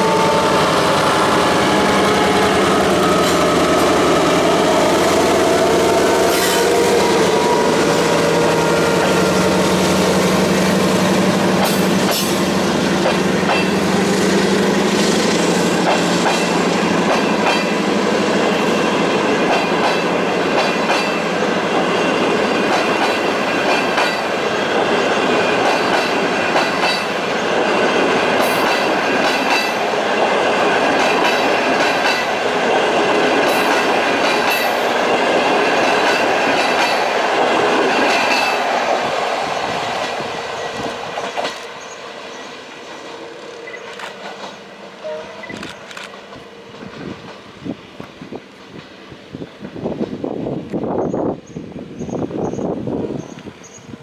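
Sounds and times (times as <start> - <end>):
train wheels clacking over rail joints: 0.0 - 51.2
diesel locomotive hum: 0.0 - 54.0.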